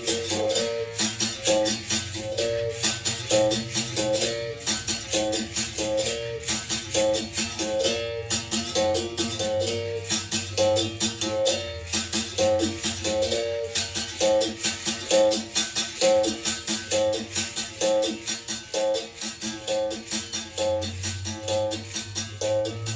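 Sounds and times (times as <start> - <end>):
shaken rattle: 0.0 - 22.9.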